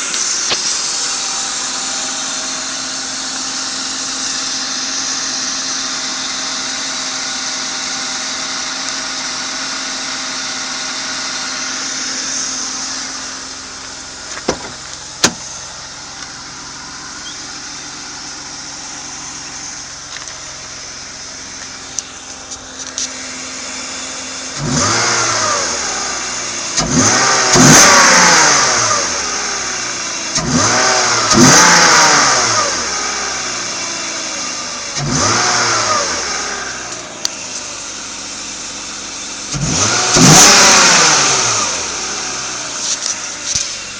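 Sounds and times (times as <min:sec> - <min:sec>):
car engine idling: 0:00.0 - 0:43.9
car engine revving: 0:00.0 - 0:43.9.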